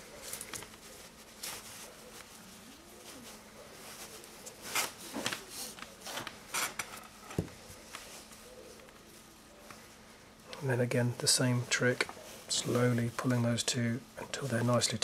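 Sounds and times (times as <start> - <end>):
rope rustling and scraping: 0.0 - 15.0.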